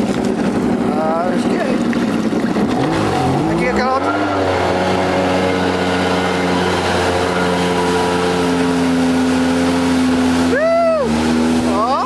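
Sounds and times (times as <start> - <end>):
boat engine running: 0.0 - 12.0
water hissing: 1.8 - 12.0.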